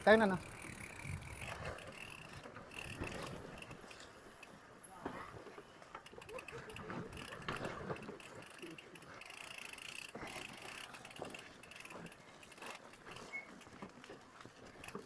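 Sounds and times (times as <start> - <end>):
bike freewheel hub ticking: 0.0 - 5.0, 5.8 - 15.0
bike drivetrain rattling: 0.0 - 15.0.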